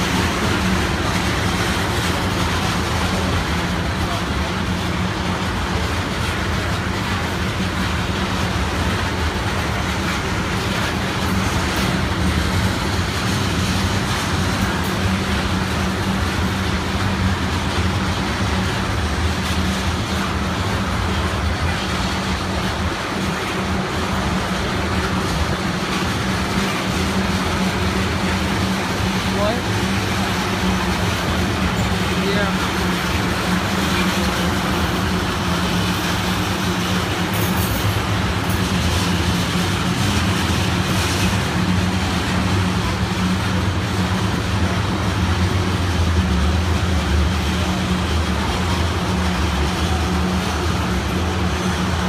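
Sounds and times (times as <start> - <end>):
freight train rolling past: 0.0 - 52.0.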